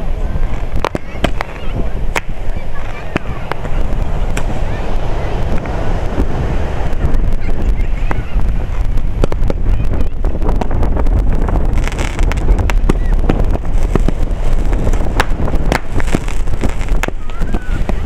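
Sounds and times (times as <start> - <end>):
fireworks bangs and crackles: 0.0 - 18.0
wind rumble on microphone: 0.0 - 18.0.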